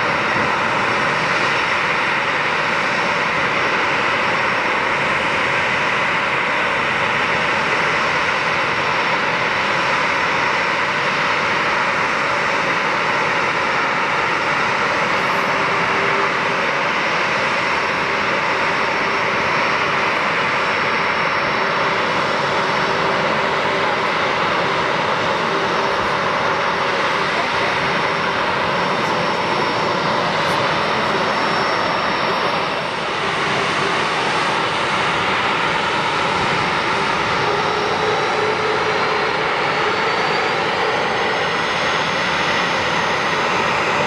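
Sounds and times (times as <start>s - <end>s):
jet engines idling with whine: 0.0s - 44.0s.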